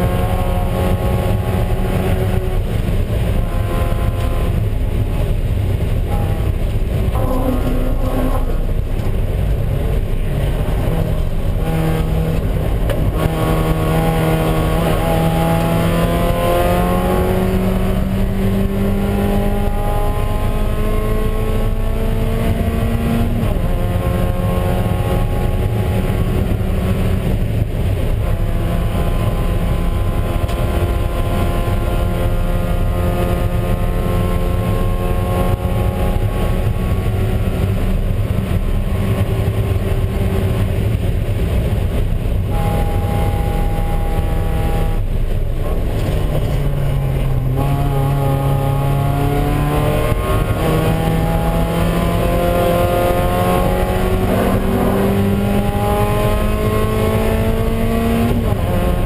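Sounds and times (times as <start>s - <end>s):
race car engine accelerating: 0.0s - 59.0s
wind and road noise: 0.0s - 59.0s.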